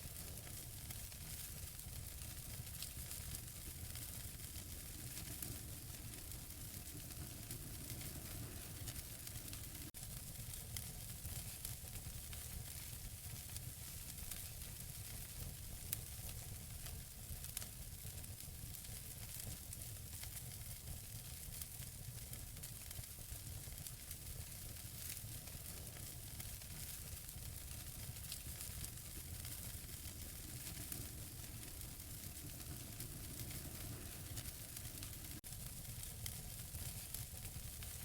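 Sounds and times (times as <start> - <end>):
fire crackles and pops: 0.0 - 38.0
wood fire hissing: 0.0 - 38.0.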